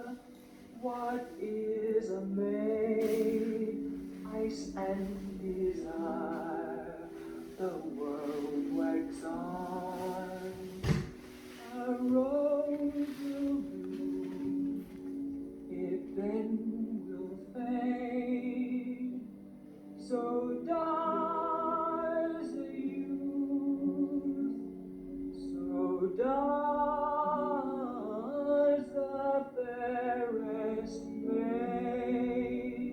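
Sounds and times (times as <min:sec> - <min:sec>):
person singing a slow ballad: 0:00.0 - 0:32.9.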